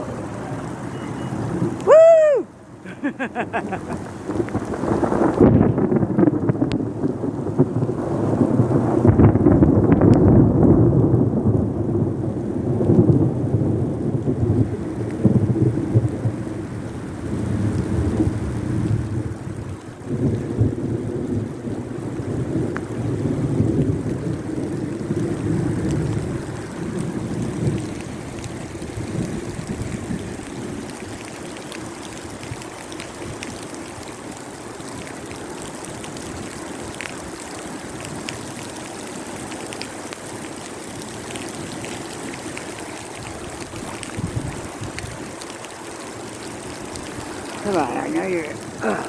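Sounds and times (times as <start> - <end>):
raindrops ticking: 0.0 - 10.4, 11.0 - 49.0
thunder rumbling: 0.0 - 33.8, 41.0 - 49.0
steady rain: 0.0 - 49.0.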